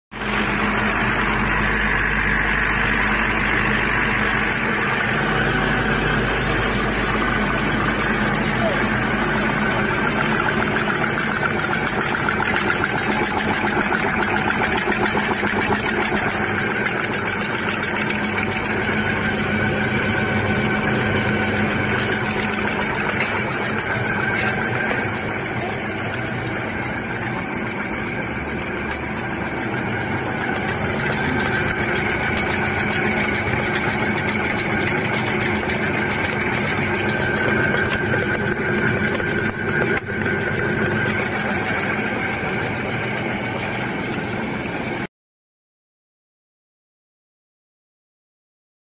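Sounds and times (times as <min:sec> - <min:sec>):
constant machine hum: 0:00.2 - 0:45.1
rapid mechanical clatter: 0:00.2 - 0:45.1.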